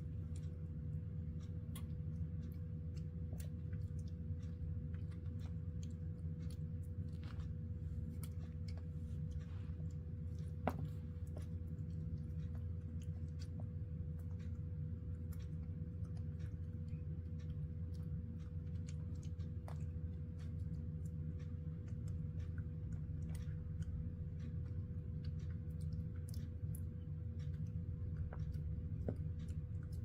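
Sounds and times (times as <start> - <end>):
monkey chewing: 0.0 - 30.0
steady low hum: 0.0 - 30.0.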